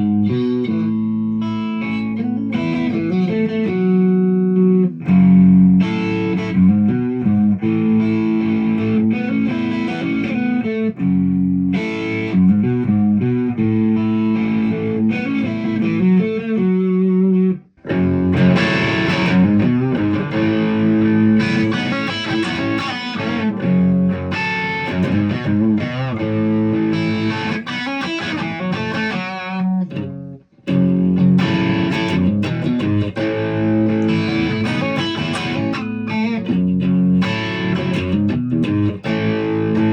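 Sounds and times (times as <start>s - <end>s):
electric guitar through amplifier: 0.0s - 39.9s.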